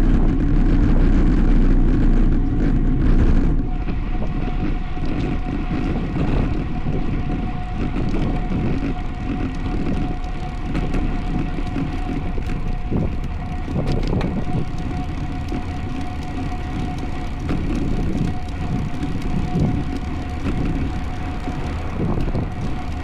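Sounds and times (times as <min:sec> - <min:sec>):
bicycle tyre and road noise: 0:00.0 - 0:23.0
steady high hum: 0:00.0 - 0:23.0
wind on microphone: 0:00.0 - 0:23.0.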